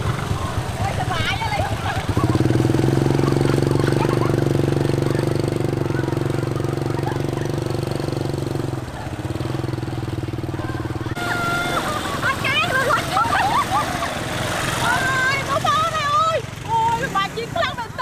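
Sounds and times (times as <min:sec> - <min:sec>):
small motorbike engine running: 0:00.0 - 0:18.0.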